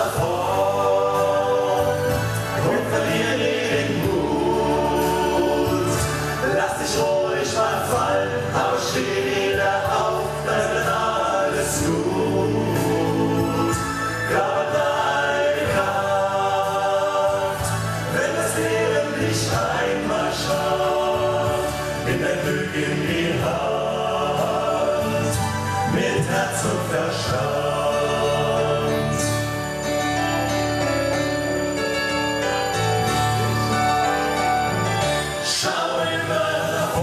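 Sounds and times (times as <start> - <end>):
men singing in harmony: 0.0 - 30.1, 35.3 - 37.0
musical backing: 0.0 - 37.0.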